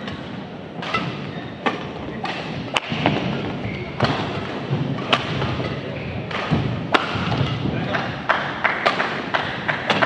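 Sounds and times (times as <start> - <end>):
arena crowd hum: 0.0 - 10.0
rackets striking shuttlecock: 0.0 - 10.0.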